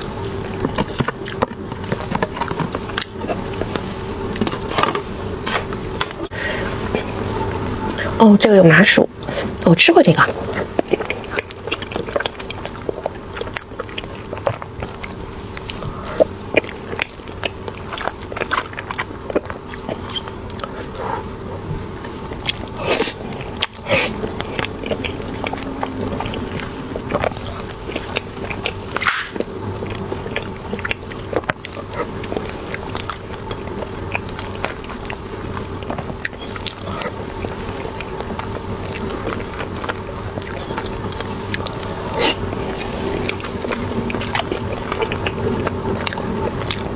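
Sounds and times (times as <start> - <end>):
chewing and biting soft bun: 0.0 - 8.1, 10.2 - 46.9.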